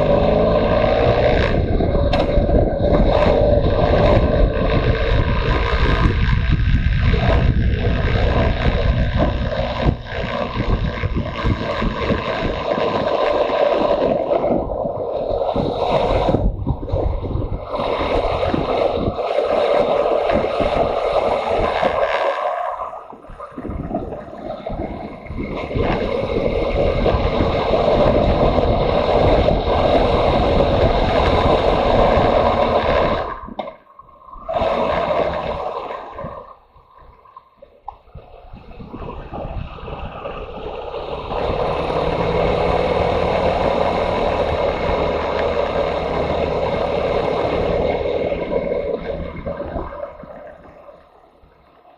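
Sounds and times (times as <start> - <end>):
wind on microphone: 0.0 - 51.8
motorcycle engine drone: 0.0 - 51.9.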